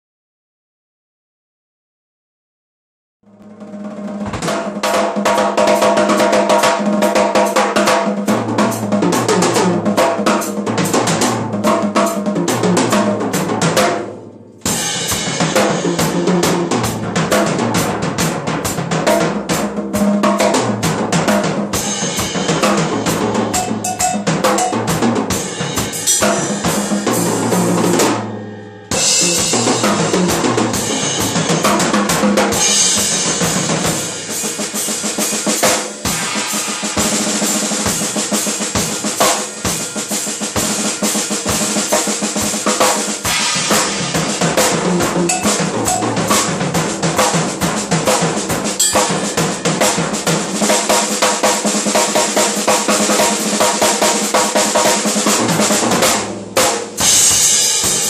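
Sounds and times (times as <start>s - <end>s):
acoustic drum kit solo: 3.3s - 58.0s.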